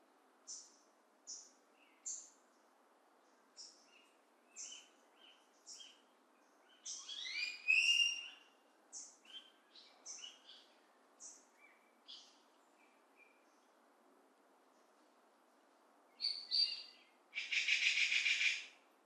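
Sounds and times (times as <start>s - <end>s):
faint steady hiss: 0.0s - 19.0s
wild birds chirping: 0.4s - 13.8s, 16.1s - 19.0s.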